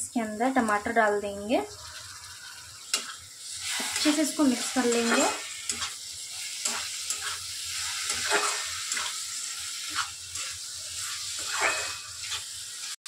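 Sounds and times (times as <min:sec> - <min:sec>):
onion and tomato sizzling: 0:00.0 - 0:13.0
metal spatula scraping pan: 0:02.0 - 0:13.0.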